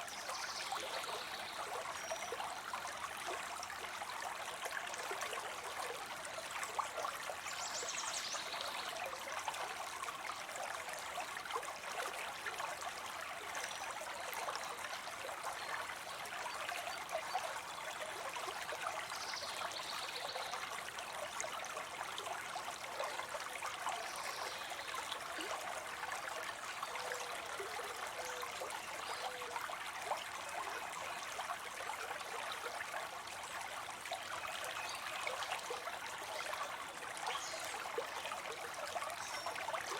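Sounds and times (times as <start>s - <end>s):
water trickling into a pond: 0.0s - 39.9s.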